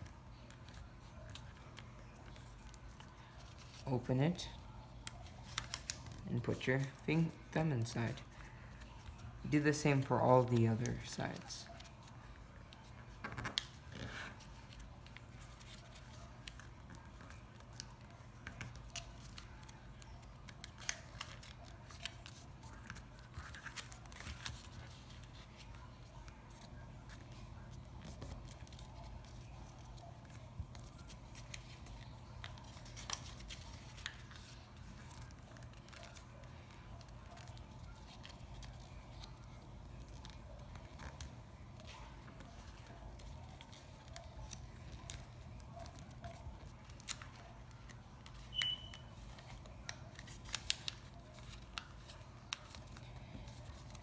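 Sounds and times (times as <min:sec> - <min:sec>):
paper crinkling and creasing: 0:00.0 - 0:54.0.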